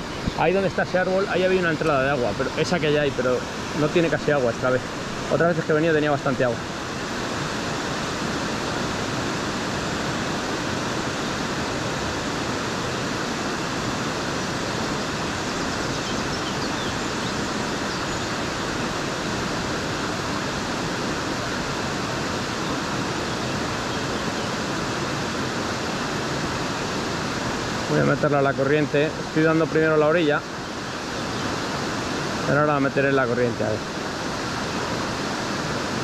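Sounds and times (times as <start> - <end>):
river rushing: 0.0 - 36.0.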